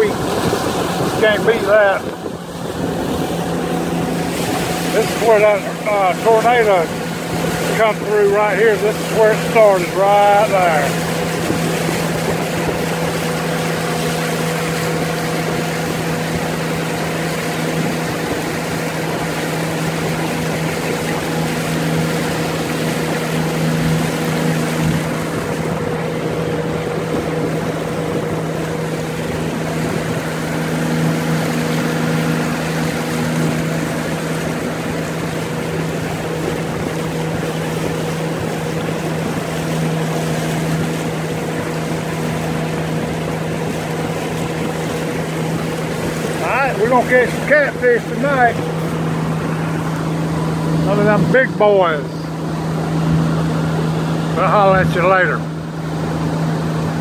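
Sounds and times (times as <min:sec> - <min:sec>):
outboard motor running: 0:00.0 - 0:57.0
water rushing along hull: 0:00.0 - 0:57.0.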